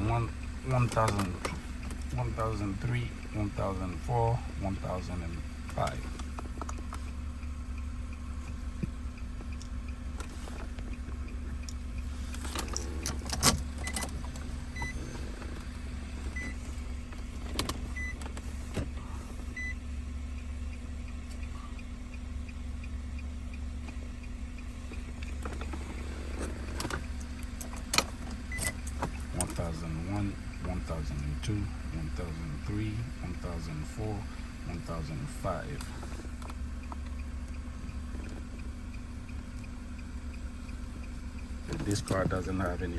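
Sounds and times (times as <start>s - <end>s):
ignition key clicks: 0.0s - 42.9s
steady low hum: 0.0s - 42.9s.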